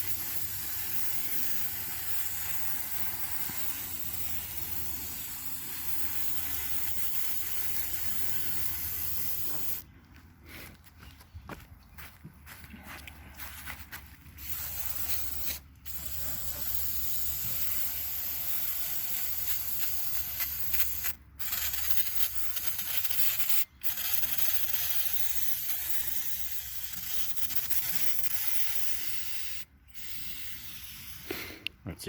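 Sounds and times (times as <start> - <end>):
spray can hissing: 0.0 - 9.8, 14.4 - 31.6.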